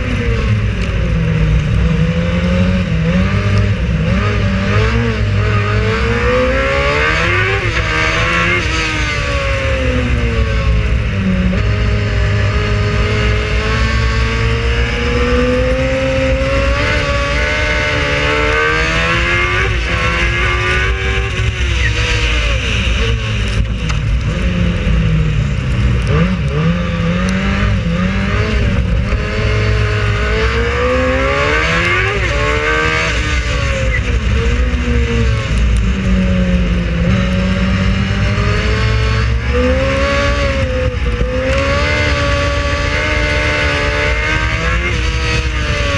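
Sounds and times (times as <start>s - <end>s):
racing car engine: 0.0s - 45.9s.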